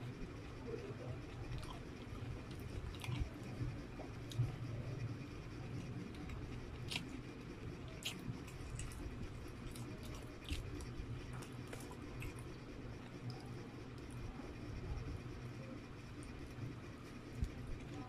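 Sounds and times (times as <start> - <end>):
chewing noodles: 0.0 - 18.0
low hum: 0.0 - 18.0.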